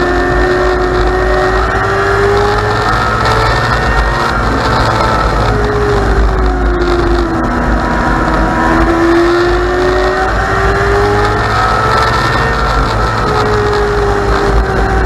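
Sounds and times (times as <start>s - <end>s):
motorcycle engine racing: 0.0s - 15.0s
wind rushing over microphone: 0.0s - 15.0s.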